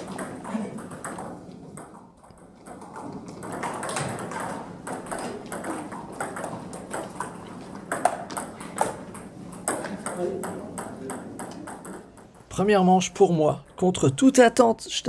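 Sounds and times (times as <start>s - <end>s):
table tennis balls clicking: 0.0s - 14.1s.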